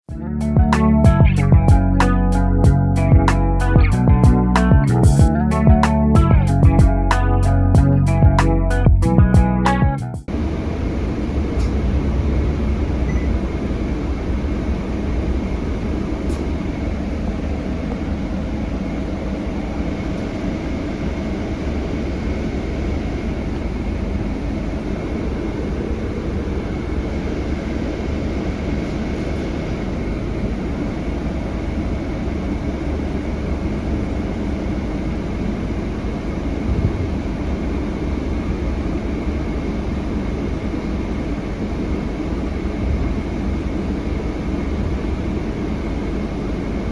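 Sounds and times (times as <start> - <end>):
bus engine and road noise: 0.1 - 46.9.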